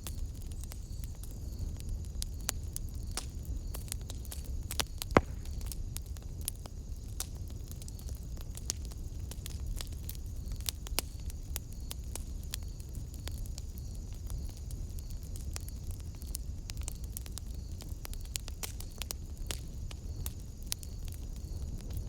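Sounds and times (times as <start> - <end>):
low rumble of fire: 0.0 - 22.0
wood fire crackling and popping: 0.0 - 22.0.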